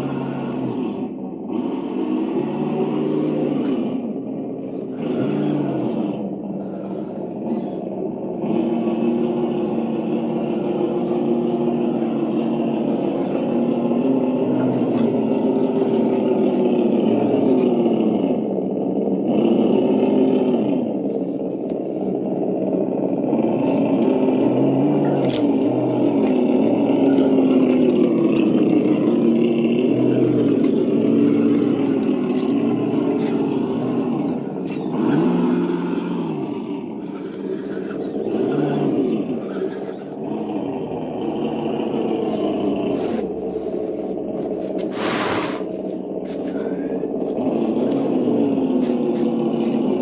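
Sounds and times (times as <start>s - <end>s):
electric motor whining: 0.0s - 50.0s.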